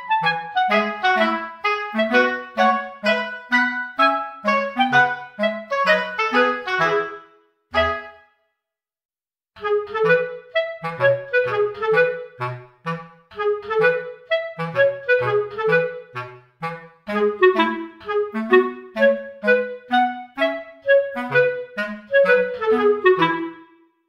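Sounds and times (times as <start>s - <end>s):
bouncy background music: 0.0s - 8.3s, 9.6s - 23.8s.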